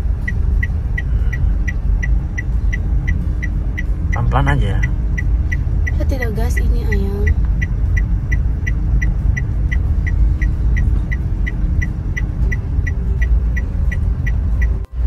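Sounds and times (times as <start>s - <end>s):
car engine and road rumble: 0.0s - 15.0s
indicator ticking: 0.0s - 15.0s.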